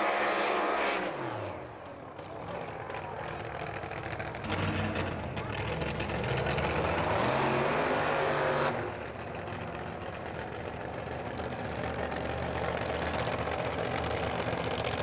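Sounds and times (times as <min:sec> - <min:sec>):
drag race car engine running: 0:01.8 - 0:15.0.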